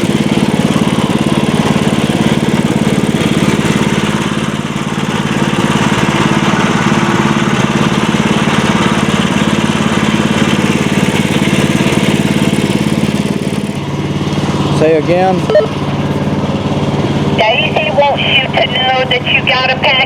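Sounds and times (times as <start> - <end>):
gasoline engine humming: 0.0 - 20.0.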